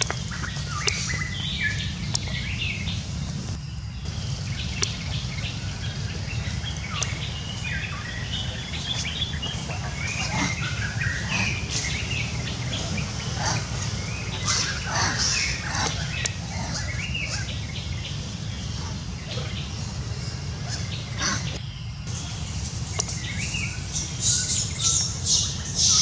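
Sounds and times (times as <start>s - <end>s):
animals chirping: 0.0s - 26.0s
low background hum: 0.0s - 26.0s.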